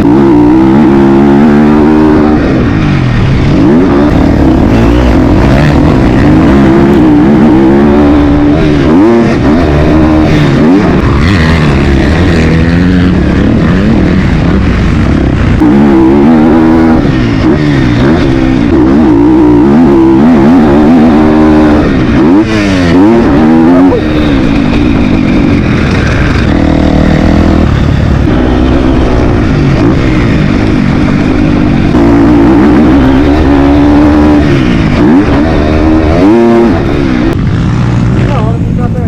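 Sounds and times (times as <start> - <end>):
motocross bike engine revving: 0.0 - 39.0.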